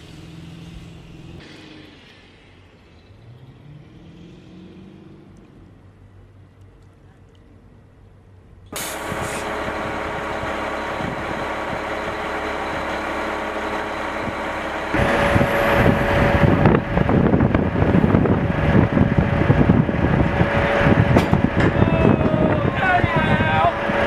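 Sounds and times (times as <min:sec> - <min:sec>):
heavy vehicle engine running: 0:00.0 - 0:04.9, 0:08.7 - 0:24.0
rough engine noise with whine: 0:00.0 - 0:24.0.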